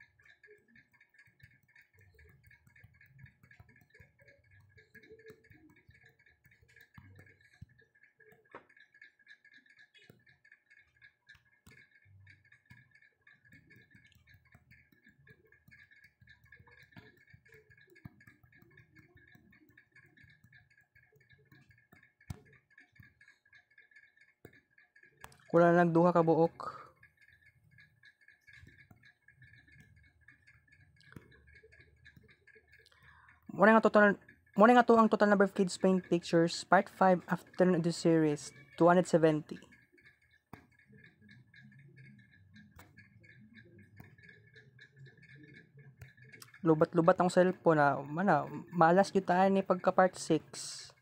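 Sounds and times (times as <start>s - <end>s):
faint ticks: 0.0s - 51.0s.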